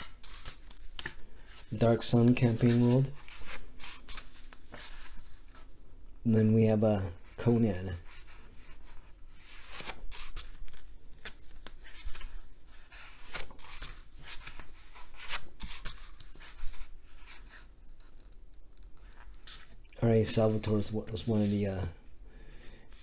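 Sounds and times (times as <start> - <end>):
book pages turning: 0.0 - 5.7, 7.3 - 21.5.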